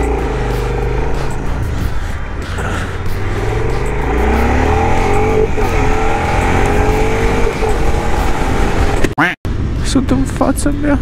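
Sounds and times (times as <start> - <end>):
motorcycle engine accelerating: 0.0 - 9.1.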